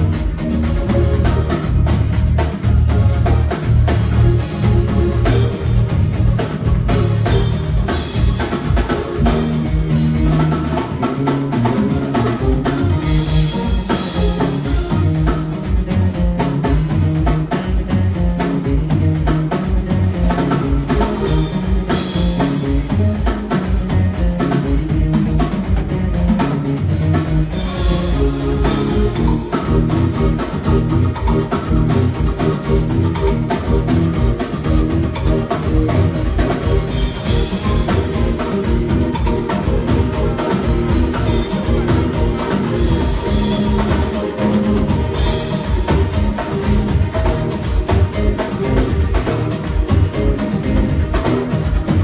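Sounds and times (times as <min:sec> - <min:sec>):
bass line: 0:00.0 - 0:52.0
drum kit playing: 0:00.0 - 0:52.0.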